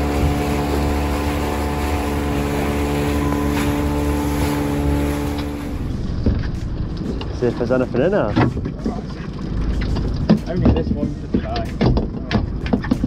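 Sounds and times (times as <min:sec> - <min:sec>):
water rushing past hull: 0:00.0 - 0:11.8
outboard motor running: 0:00.0 - 0:13.0.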